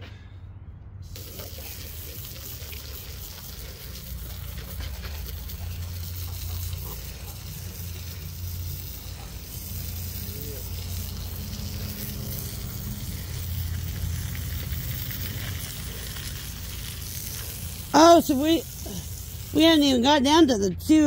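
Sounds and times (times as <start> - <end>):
saw blade hissing through wood: 1.0 - 20.0
sawmill engine hum: 3.2 - 21.0.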